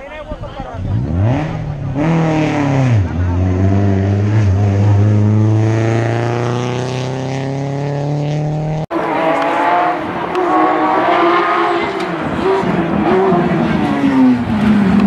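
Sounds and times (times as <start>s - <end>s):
rally car engine accelerating: 0.8s - 15.0s
rally car engine revving: 0.8s - 15.0s.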